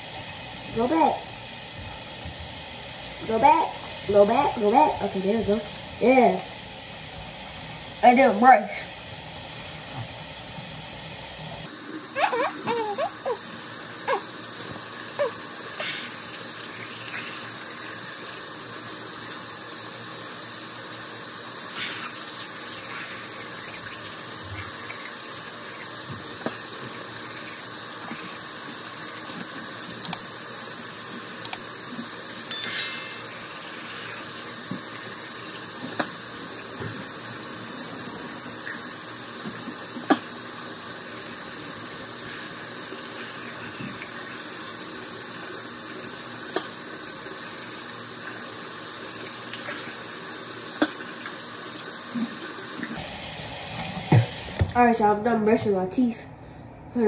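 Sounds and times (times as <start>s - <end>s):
sink tap running: 0.0s - 11.0s, 11.6s - 55.0s.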